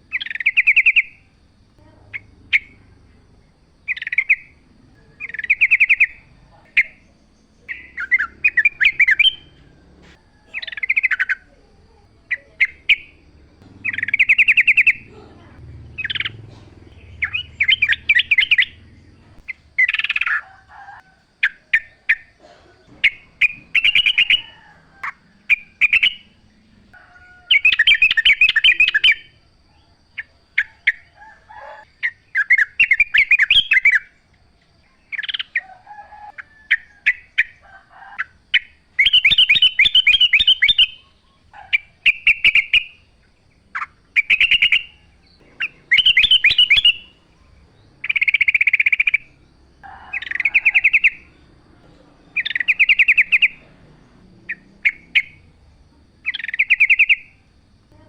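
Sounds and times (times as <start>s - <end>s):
bird singing chattering phrases: 0.0s - 20.6s, 21.4s - 31.1s, 31.8s - 35.6s, 38.2s - 58.0s.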